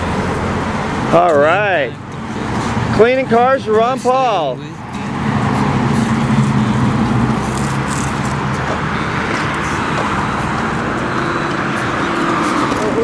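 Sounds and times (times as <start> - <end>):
car engine humming: 0.0 - 13.0
road traffic noise: 0.0 - 13.0.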